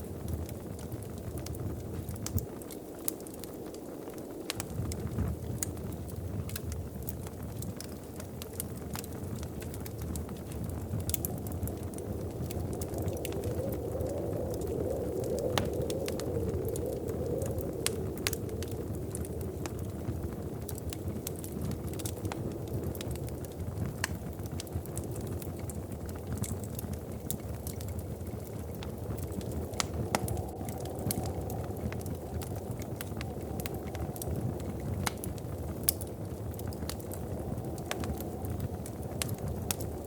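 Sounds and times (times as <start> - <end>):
fire pops and snaps: 0.0 - 40.0
low fire rumble: 0.0 - 40.0.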